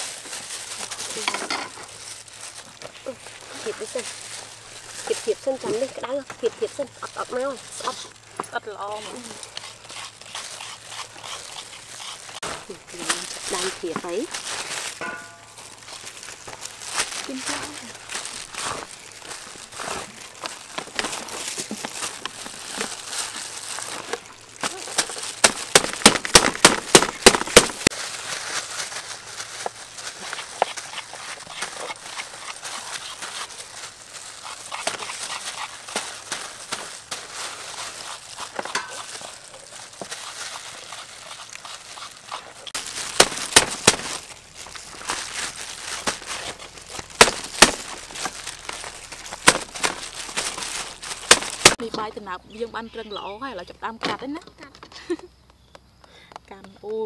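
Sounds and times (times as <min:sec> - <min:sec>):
rustling leaves and plastic gloves: 0:00.0 - 0:55.2.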